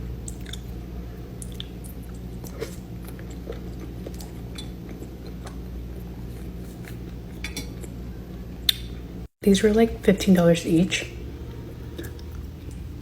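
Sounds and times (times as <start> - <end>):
low background hum: 0.0 - 13.0
person chewing pastry: 0.1 - 9.1, 11.4 - 13.0.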